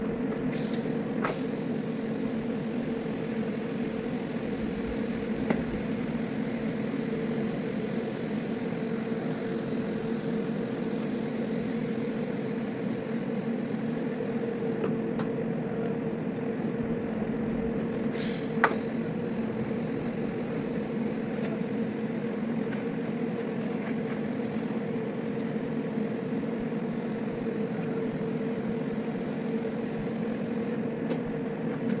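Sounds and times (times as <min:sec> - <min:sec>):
welding arc hum and buzz: 0:00.0 - 0:32.0.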